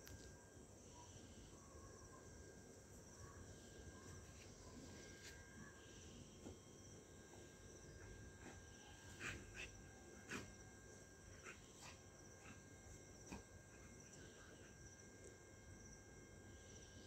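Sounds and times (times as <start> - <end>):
night insects chirping: 0.3 - 17.0.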